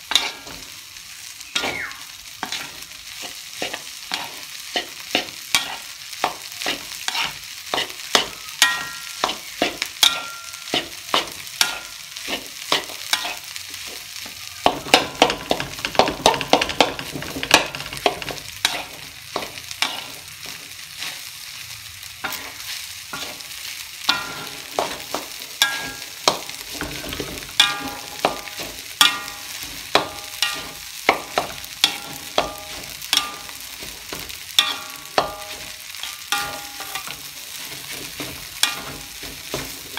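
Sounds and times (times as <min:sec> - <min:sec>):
metal spatula scraping a wok: 0:00.0 - 0:00.8, 0:02.4 - 0:21.6, 0:22.2 - 0:39.9
wok ringing: 0:00.0 - 0:21.3, 0:22.1 - 0:39.9
frying sizzle: 0:00.0 - 0:39.9.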